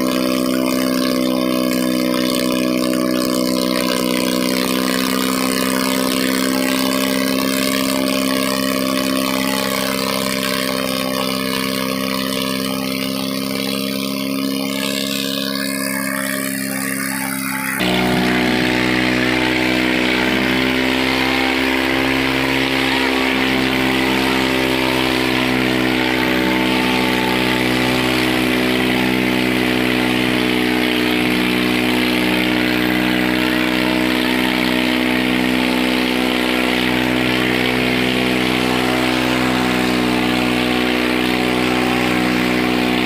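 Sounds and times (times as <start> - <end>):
tractor diesel engine running hard: 0.0 - 43.0.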